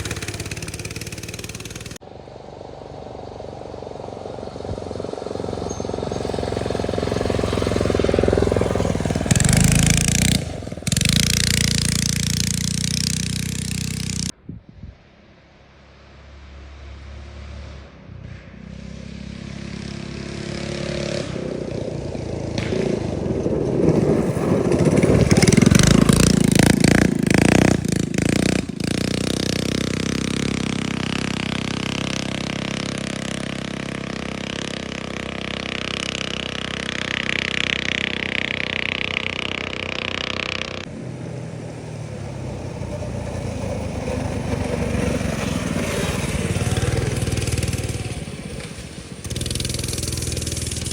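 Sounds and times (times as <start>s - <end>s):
minibike engine revving: 0.0s - 14.4s, 16.3s - 50.9s.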